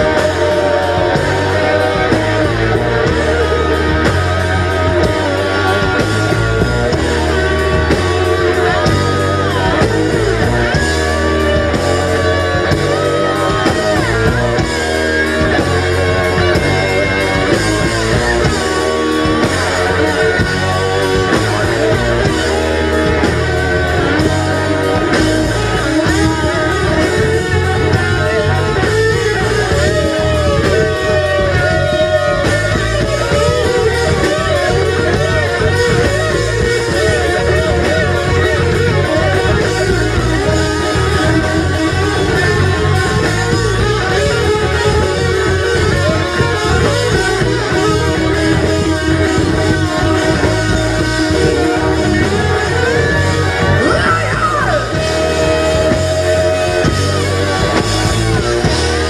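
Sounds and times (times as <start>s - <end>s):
electric guitar lead lines: 0.0s - 59.0s
rock band playing live: 0.0s - 59.0s.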